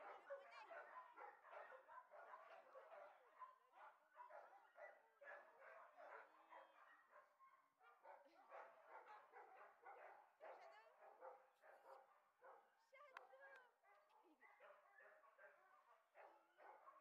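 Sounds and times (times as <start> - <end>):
faint dog barking and yipping: 0.0 - 17.0.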